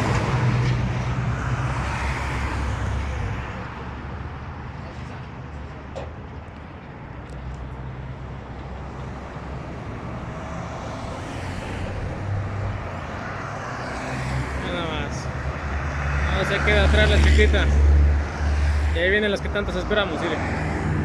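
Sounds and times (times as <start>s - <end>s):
truck engines rumbling: 0.0s - 21.0s.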